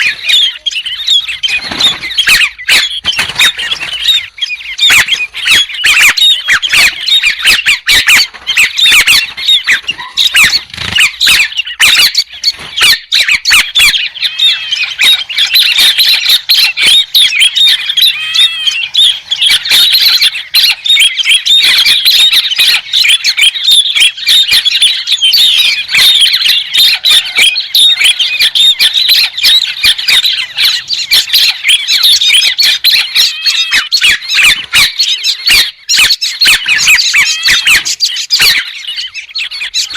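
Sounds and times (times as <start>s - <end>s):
birds chattering chorus: 0.0s - 39.9s.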